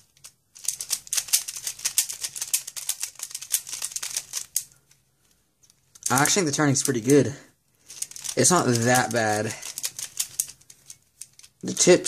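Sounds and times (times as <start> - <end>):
puzzle cube plastic clicks: 0.0 - 5.0, 5.6 - 7.2, 7.8 - 11.9.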